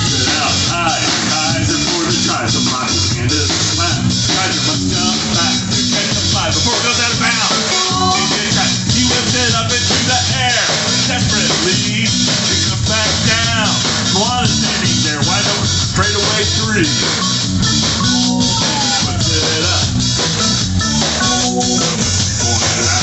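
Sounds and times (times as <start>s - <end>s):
drum kit with cymbals: 0.0s - 23.0s
guitar: 0.0s - 23.0s
rock band playing: 0.0s - 23.0s.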